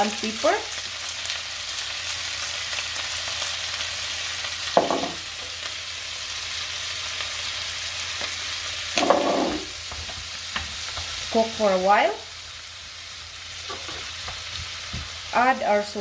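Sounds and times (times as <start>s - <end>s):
seafood sizzling in frying pan: 0.0s - 16.0s.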